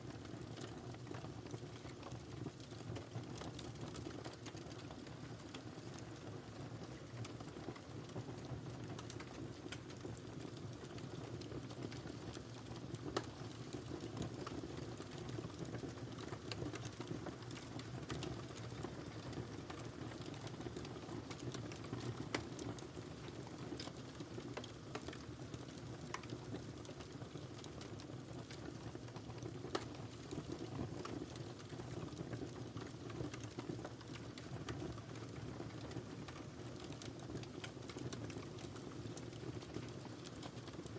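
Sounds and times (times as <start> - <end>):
fire crackling in a fireplace: 0.0 - 40.9.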